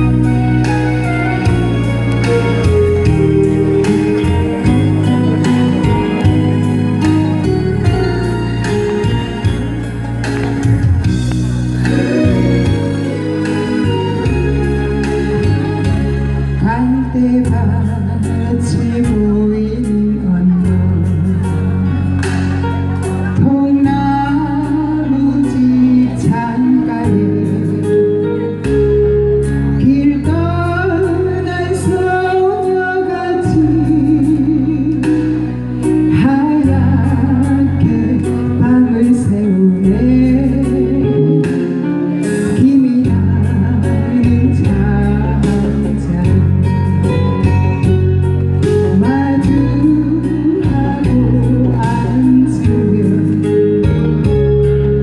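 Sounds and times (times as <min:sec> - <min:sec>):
backing band with steady beat: 0:00.0 - 0:55.0.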